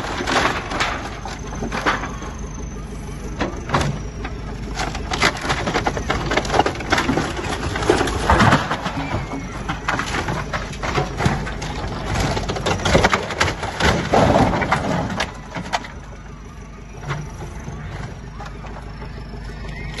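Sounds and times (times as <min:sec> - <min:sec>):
diesel engine running under load: 0:00.0 - 0:20.0
falling boards: 0:00.0 - 0:20.0
timber splintering and crashing: 0:00.0 - 0:20.0.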